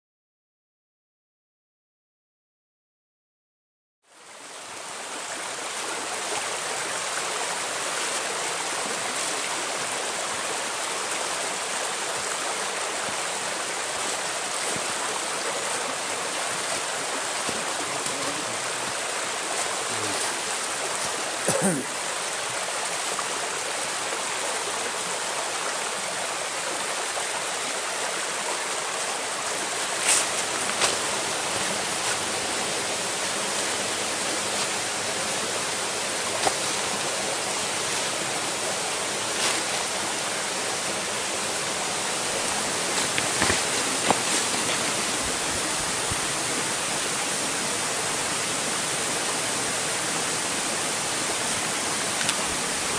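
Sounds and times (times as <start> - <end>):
stream flowing: 4.1 - 52.9.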